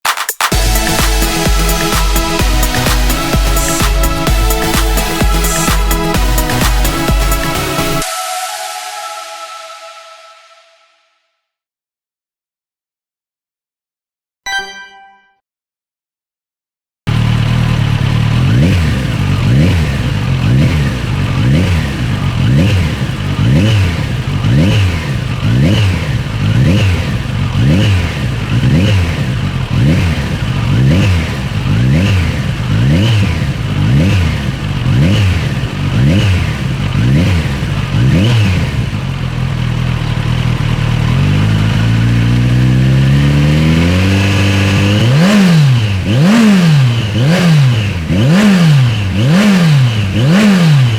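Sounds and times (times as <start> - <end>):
motorcycle engine idling: 0.5 - 8.0, 17.1 - 50.9
motorcycle engine revving: 0.5 - 8.0, 17.1 - 50.9.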